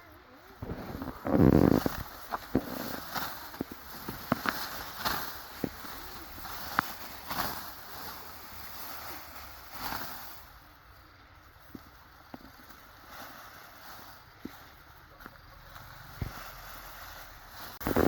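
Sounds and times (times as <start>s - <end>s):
rustling swishes of stalks: 0.1s - 18.0s.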